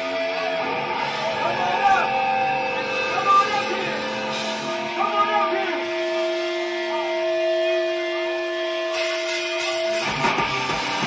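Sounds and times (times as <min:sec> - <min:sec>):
electric guitar notes ringing: 0:00.0 - 0:11.0.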